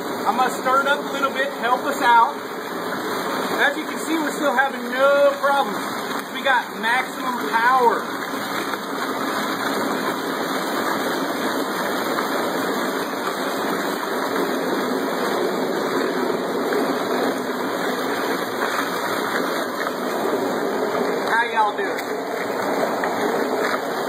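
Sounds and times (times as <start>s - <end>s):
garbage disposal running: 0.0s - 24.0s
slush and ice churning: 0.2s - 24.0s.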